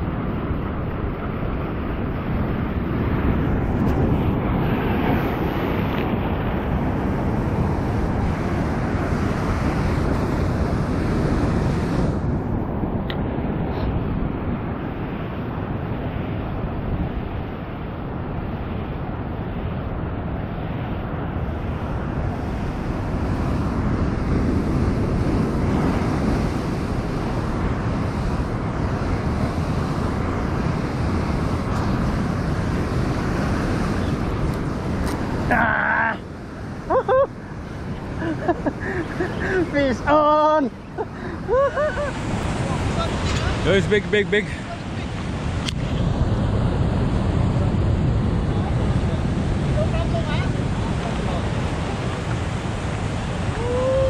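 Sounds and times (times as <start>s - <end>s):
waves breaking on rocky shore: 0.0s - 54.0s
wind rumbling on microphone: 0.0s - 54.0s.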